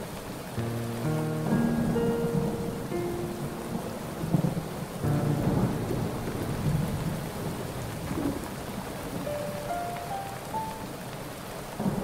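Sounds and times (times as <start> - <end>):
rain falling steadily: 0.0 - 12.0
thunder rumbling: 1.2 - 10.8, 11.8 - 12.0.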